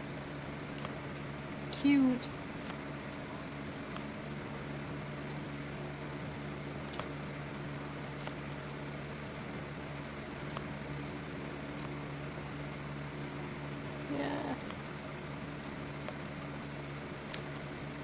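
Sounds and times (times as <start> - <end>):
electric fan humming: 0.0 - 18.0.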